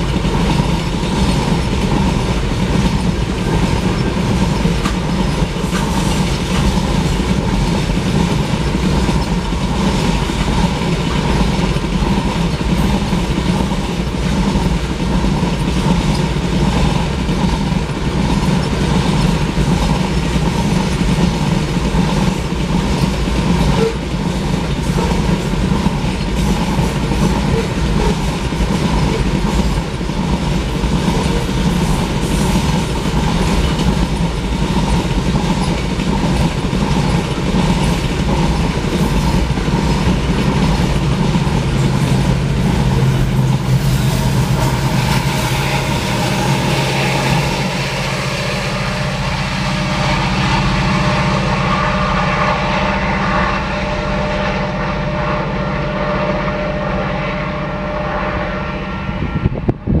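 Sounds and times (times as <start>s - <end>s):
crossing warning bell ringing: 0.0s - 59.7s
freight train rumbling: 0.0s - 60.0s.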